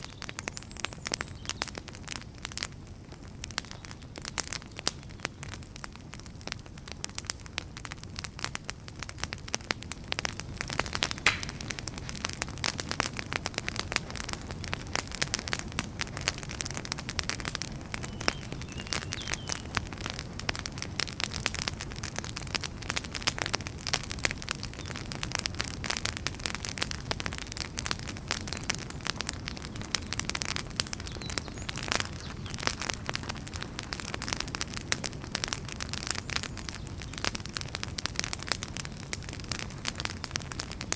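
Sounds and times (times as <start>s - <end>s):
wood fire crackling and popping: 0.0s - 40.9s
low rumble of flames: 0.2s - 40.9s.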